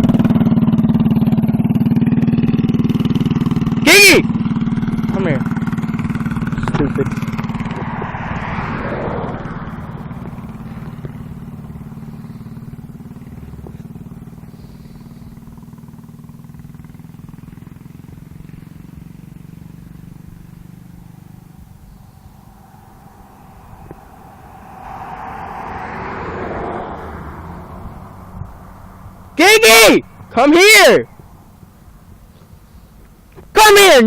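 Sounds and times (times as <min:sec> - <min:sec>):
mini bike engine at speed: 0:00.0 - 0:34.0.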